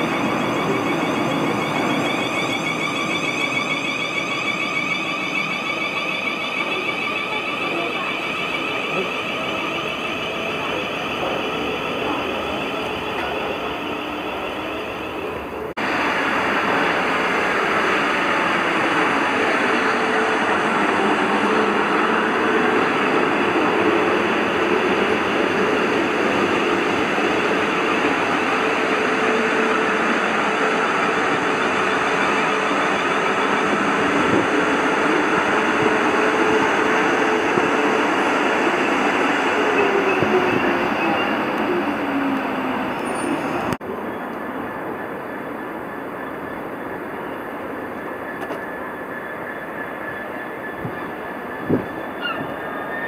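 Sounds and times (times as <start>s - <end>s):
train running on track: 0.0s - 53.0s.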